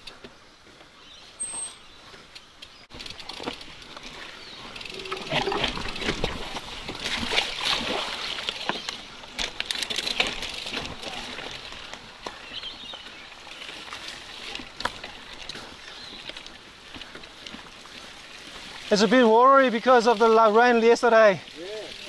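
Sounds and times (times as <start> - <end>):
bike rattling over bumps: 2.0 - 20.8
bike tyres splashing through water: 2.9 - 22.0.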